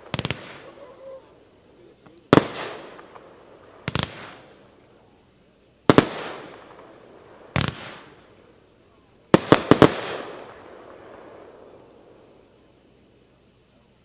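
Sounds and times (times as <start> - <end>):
fireworks bangs with crackle: 0.0 - 5.2, 5.8 - 12.7.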